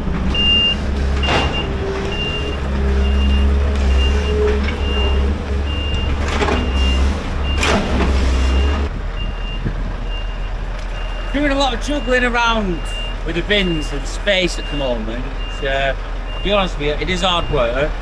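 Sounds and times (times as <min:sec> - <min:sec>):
diesel engine drone: 0:00.0 - 0:18.0
reversing alarm beeping: 0:00.3 - 0:17.8.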